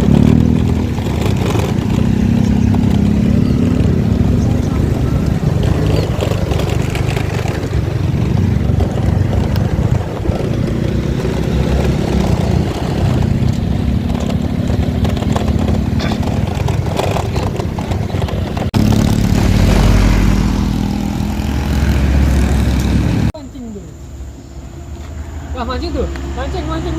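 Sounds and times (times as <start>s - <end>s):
deep engine rumble: 0.0s - 23.4s
vehicle engine humming: 0.0s - 26.9s.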